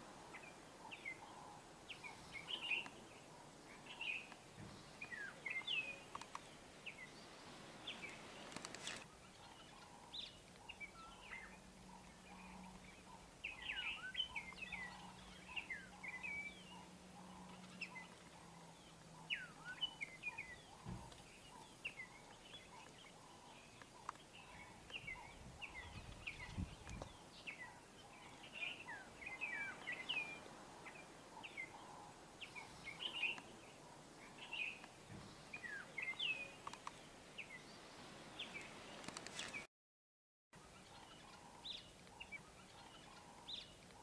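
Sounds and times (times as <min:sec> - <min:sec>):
small birds chirping: 0:00.0 - 0:39.7, 0:40.6 - 0:44.0.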